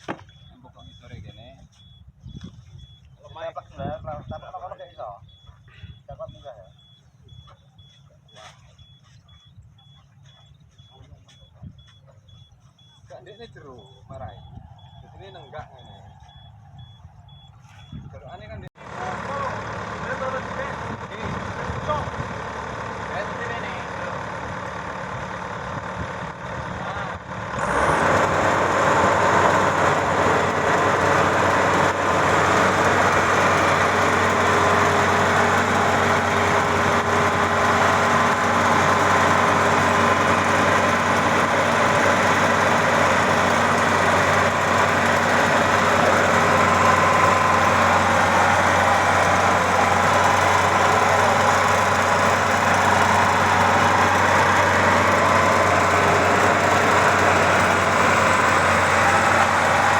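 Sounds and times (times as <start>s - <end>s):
combine harvester engine running: 0.0s - 59.9s.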